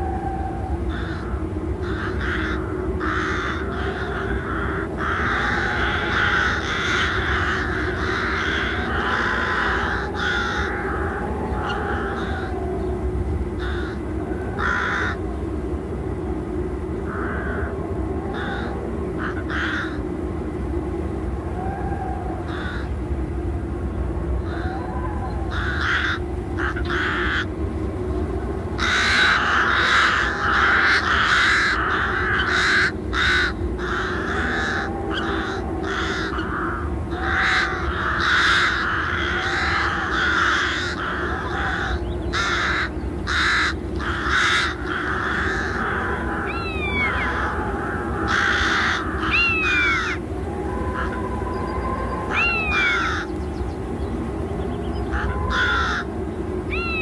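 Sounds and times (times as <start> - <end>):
birds harsh calls: 0.0 - 15.6, 16.9 - 20.2, 21.5 - 23.2, 23.8 - 57.0
steady low hum: 0.0 - 57.0.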